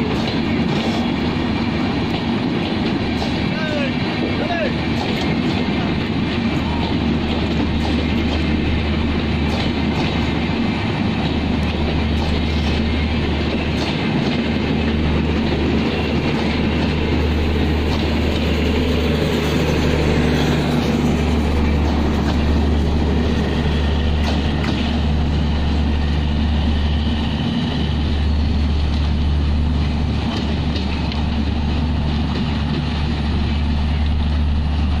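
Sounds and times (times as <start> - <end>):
low rumble of passing train: 0.0 - 35.0
train wheels clicking over rail joints: 0.0 - 35.0.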